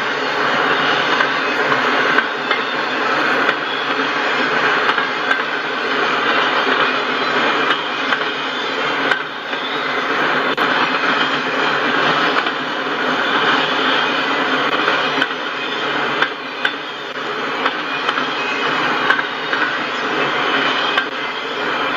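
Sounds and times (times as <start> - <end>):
train wheels rolling on rails: 0.0 - 21.9.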